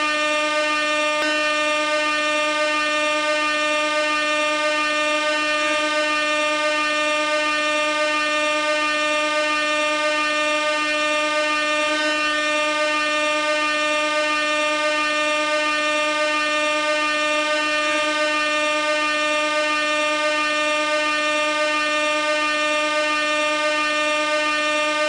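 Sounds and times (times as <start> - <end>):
gas air horn steady note: 0.0 - 25.0.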